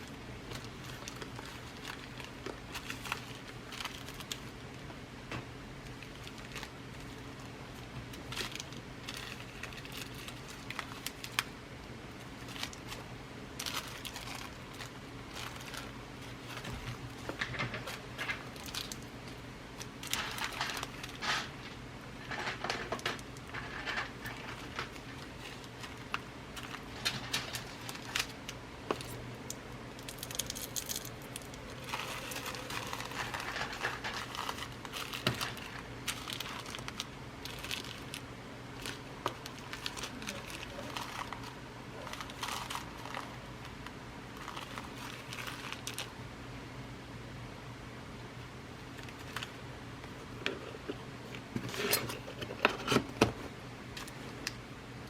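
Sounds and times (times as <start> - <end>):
plastic bags crinkling: 0.0 - 4.8, 5.8 - 46.2, 48.9 - 49.6.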